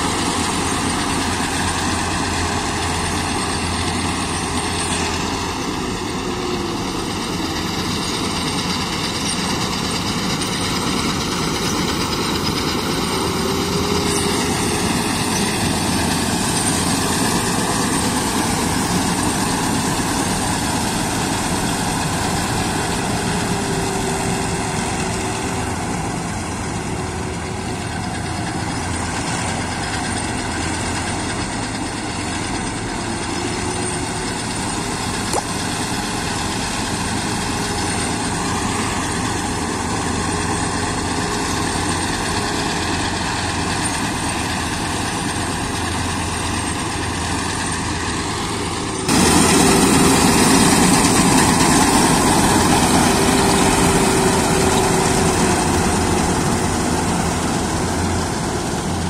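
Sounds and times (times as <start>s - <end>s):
combine harvester drone: 0.0s - 59.0s.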